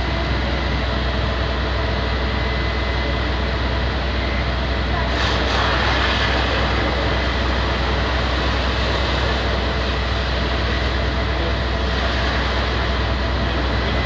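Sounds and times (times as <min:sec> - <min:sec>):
fire engine pump drone: 0:00.0 - 0:14.0.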